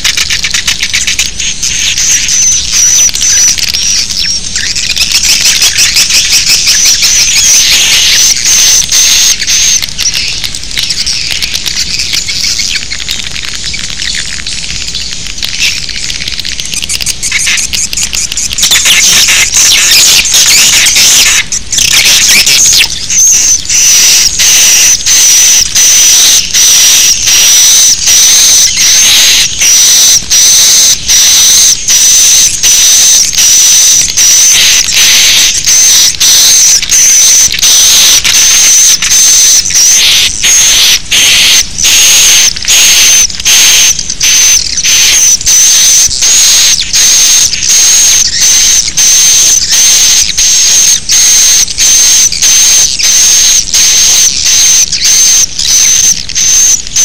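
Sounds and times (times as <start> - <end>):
shrill bird chirping: 0.2 - 16.1, 16.9 - 56.9.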